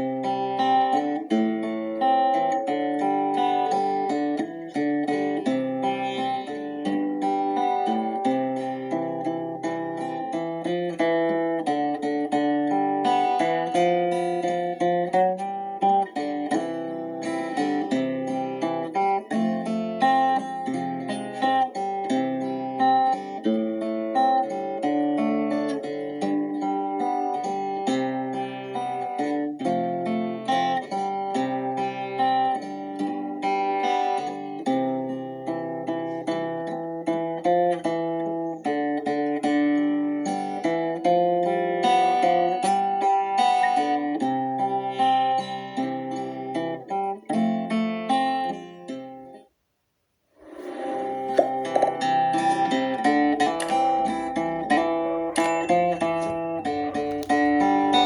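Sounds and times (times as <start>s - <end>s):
plucked acoustic guitar melody: 0.0s - 49.5s, 50.4s - 58.0s.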